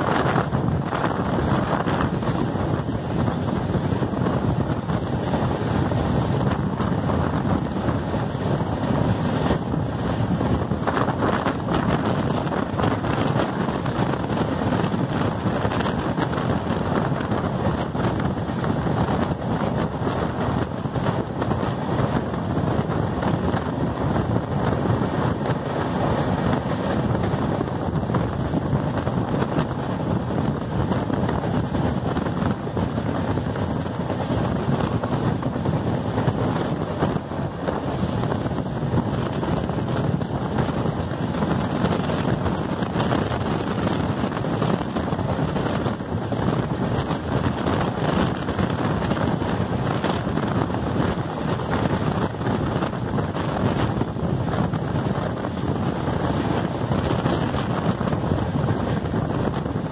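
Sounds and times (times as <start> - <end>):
train wheels rumbling on rails: 0.0 - 59.9
wind buffeting microphone: 0.0 - 59.9.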